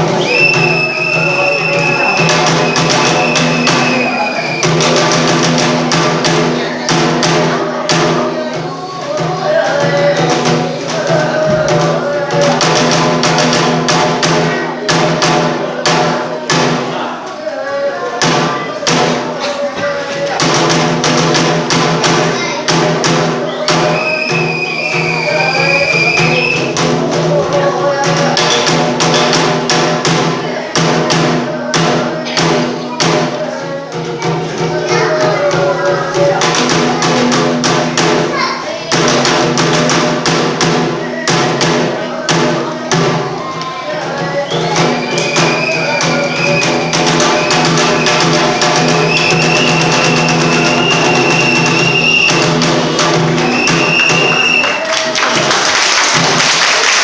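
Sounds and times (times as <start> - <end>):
sharp drum strikes: 0.0 - 56.5.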